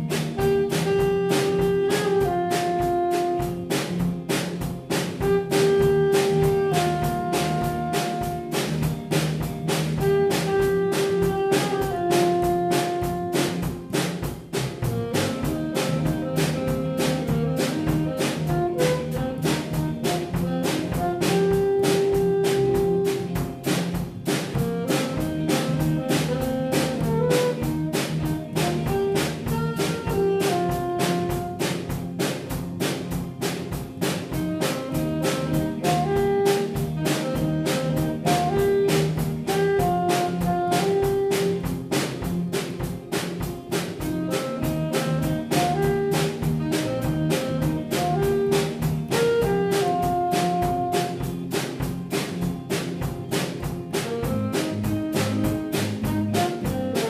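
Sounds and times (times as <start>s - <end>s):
saxophone melody: 0.0s - 3.8s, 5.2s - 32.2s, 34.2s - 42.0s, 43.9s - 51.5s, 53.9s - 57.0s
bass guitar: 0.0s - 57.0s
drum kit steady beat: 0.0s - 57.0s
electric guitar: 0.0s - 57.0s.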